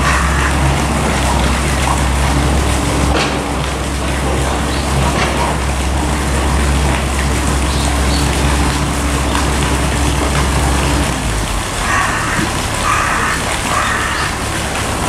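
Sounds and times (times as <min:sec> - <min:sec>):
construction machinery drone: 0:00.0 - 0:15.0.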